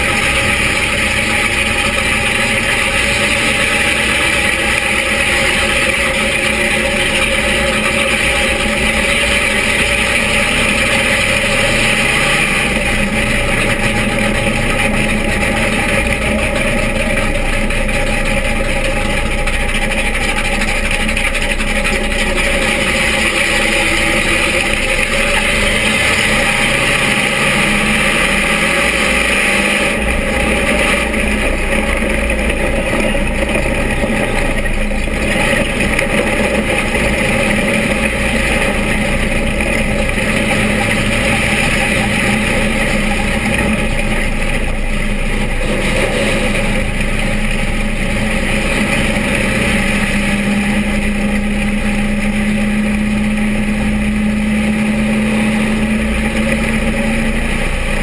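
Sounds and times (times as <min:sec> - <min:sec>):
stock car engine running loud: 0:00.0 - 0:58.0.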